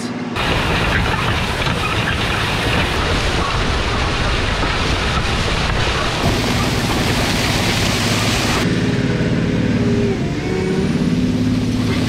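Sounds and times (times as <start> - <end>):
tractor diesel engine hum: 0.0 - 12.0.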